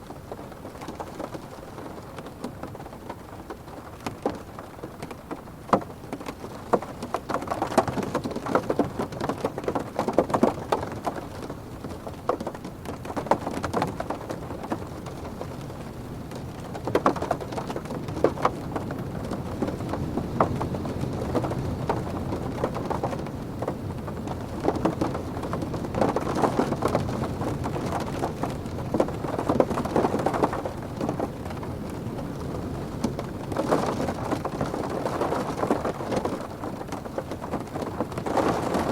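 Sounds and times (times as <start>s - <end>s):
rain drumming on car roof: 0.0s - 38.9s.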